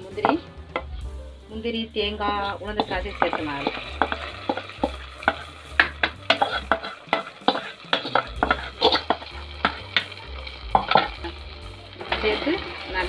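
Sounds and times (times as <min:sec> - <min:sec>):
utensils scraping a pot: 0:02.2 - 0:12.8.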